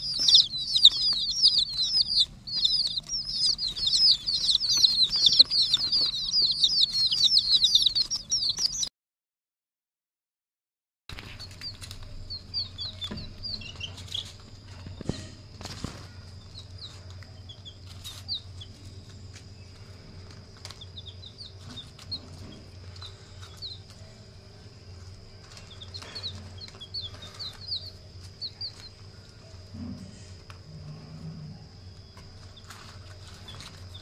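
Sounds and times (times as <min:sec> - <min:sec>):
chicks peeping: 0:00.0 - 0:08.9, 0:11.1 - 0:34.0
steady low hum: 0:00.0 - 0:08.9, 0:11.1 - 0:34.0.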